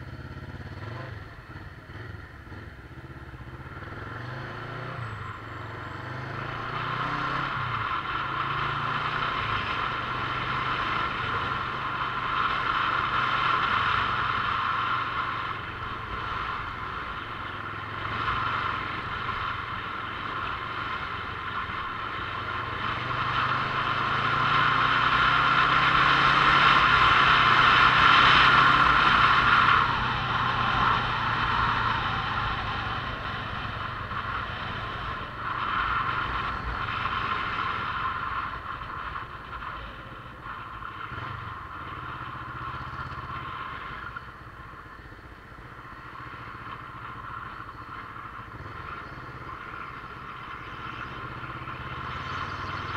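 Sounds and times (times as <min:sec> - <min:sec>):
motorcycle engine hum: 0:00.0 - 0:52.9
wind and road noise: 0:00.0 - 0:52.9.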